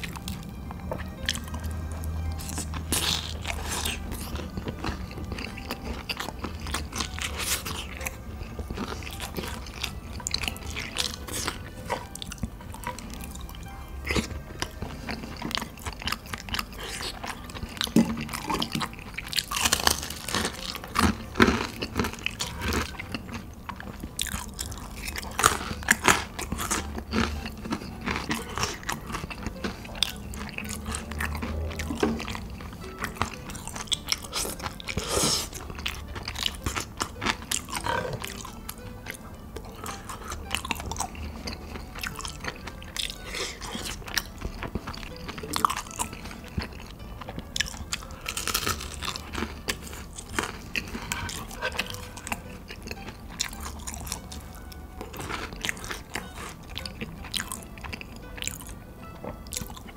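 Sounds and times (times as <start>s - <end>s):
man chewing crunchy food: 0.0s - 59.9s.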